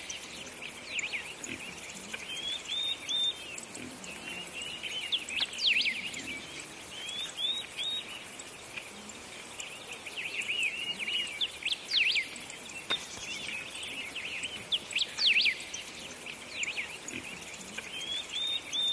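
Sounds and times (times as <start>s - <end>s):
birds chirping and singing: 0.0s - 8.3s, 9.9s - 18.9s.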